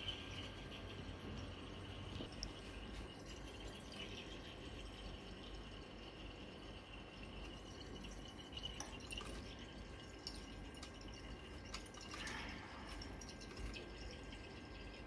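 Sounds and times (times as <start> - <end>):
liquid dripping into glass flask: 0.0 - 15.0.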